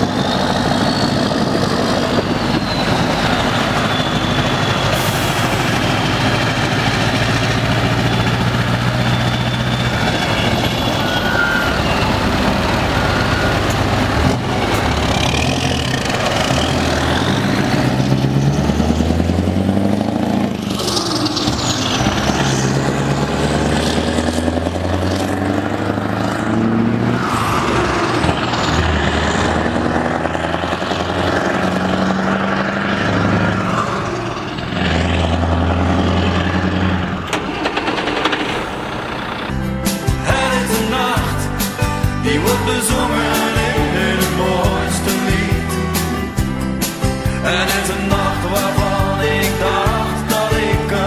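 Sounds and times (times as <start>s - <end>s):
diesel truck accelerating through gears: 0.0s - 51.0s.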